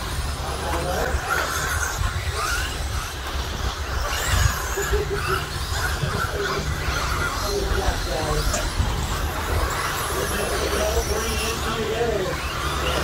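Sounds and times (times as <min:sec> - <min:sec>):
electric motor whines of racing trucks: 0:00.0 - 0:13.0.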